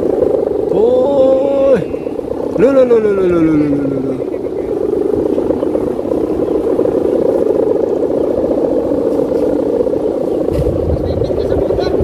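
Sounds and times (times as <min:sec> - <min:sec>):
kite bow humming in wind: 0:00.0 - 0:12.0.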